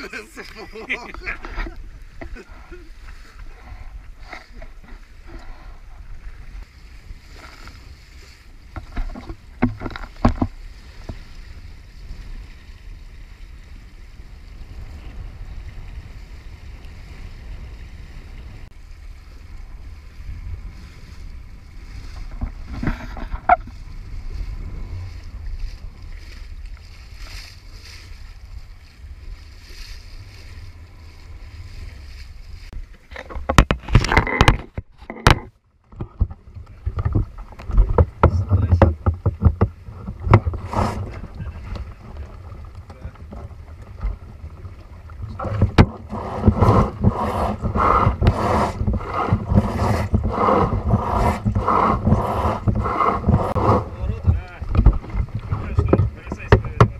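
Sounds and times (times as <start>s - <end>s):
wind buffeting microphone: 0.0s - 34.9s, 36.0s - 56.9s
water rushing along a hull: 0.0s - 56.9s.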